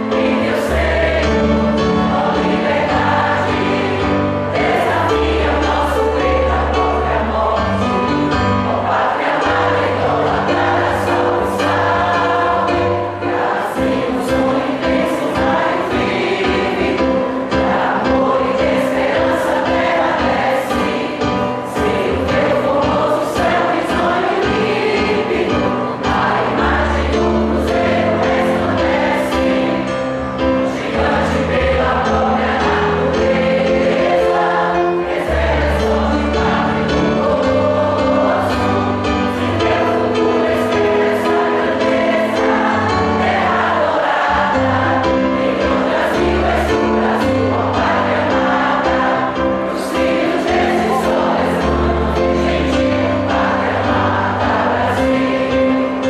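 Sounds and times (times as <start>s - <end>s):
mixed choir singing in harmony: 0.0s - 56.0s.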